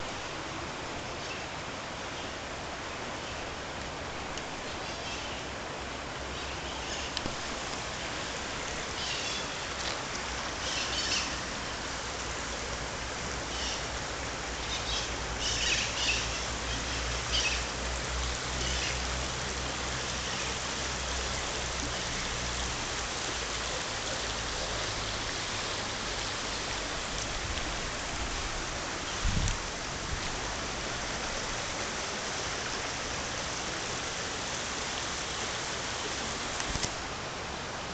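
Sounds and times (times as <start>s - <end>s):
rushing water: 0.0s - 37.9s.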